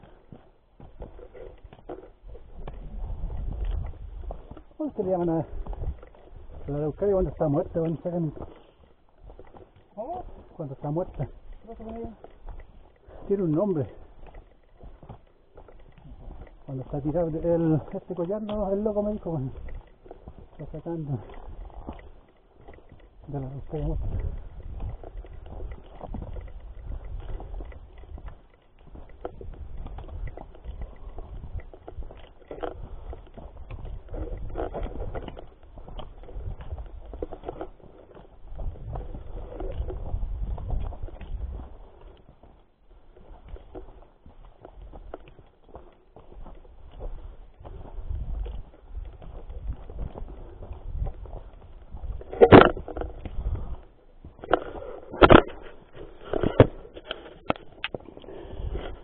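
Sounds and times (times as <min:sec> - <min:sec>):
footsteps on dirt trail: 0:00.0 - 0:59.0
microphone handling rumble: 0:00.8 - 0:08.6, 0:09.2 - 0:59.0.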